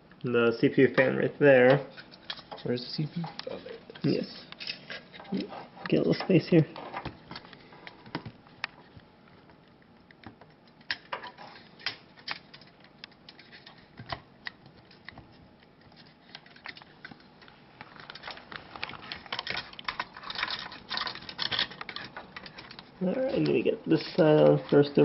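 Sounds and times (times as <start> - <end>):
hands clicking and tapping parts: 1.0 - 24.8.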